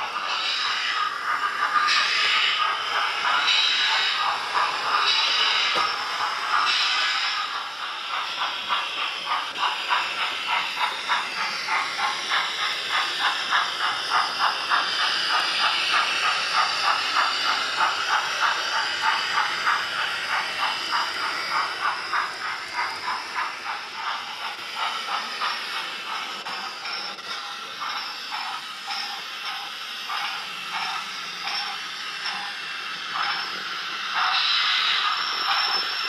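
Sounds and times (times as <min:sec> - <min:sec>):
hiss: 0:00.0 - 0:36.0
steam chuffs from small speaker: 0:00.0 - 0:36.0.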